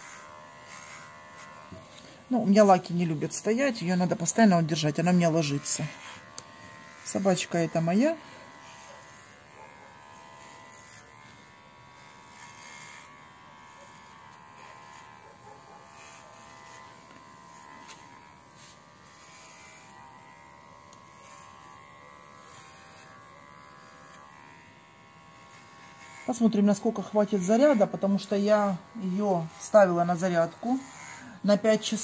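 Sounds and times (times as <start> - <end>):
pet clipper buzzing: 0.0 - 32.0.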